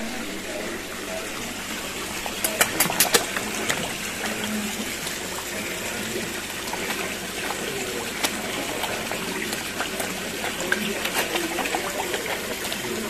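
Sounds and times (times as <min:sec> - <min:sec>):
splashing running water: 0:00.0 - 0:13.0.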